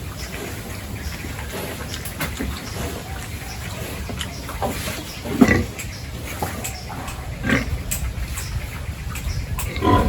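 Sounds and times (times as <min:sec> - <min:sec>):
pigs grunting: 0:00.0 - 0:08.4, 0:09.6 - 0:10.0.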